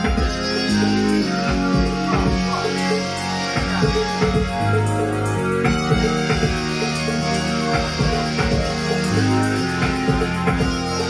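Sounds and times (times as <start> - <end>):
low bass line: 0.0 - 11.0
synthesizer sustained notes: 0.0 - 11.0.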